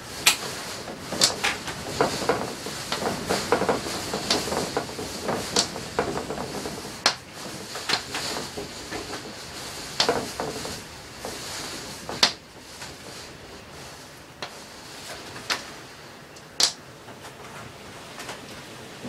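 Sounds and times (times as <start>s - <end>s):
heavy rain hissing: 0.0s - 17.0s
storm shutters knocking: 0.0s - 19.0s.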